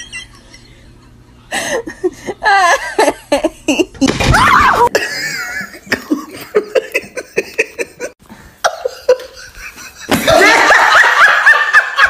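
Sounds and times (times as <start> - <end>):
person giggling: 0.0 - 4.2, 4.8 - 12.0.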